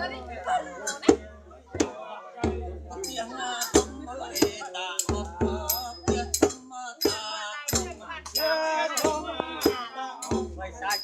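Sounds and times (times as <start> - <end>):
drum beating steady rhythm: 0.0 - 11.0
people singing: 0.0 - 11.0
rattle-like percussion: 0.8 - 11.0.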